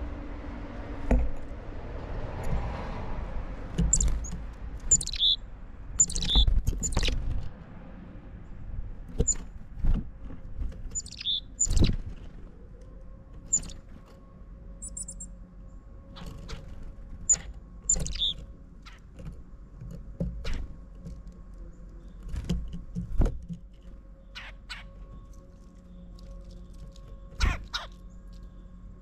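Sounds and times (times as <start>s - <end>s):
songbirds chirping: 0.0s - 29.0s.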